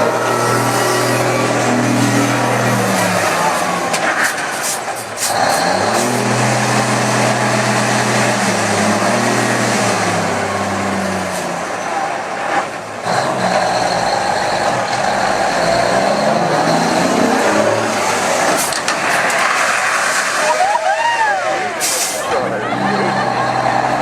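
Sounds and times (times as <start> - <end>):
truck diesel engine running: 0.0 - 20.0, 22.2 - 24.0.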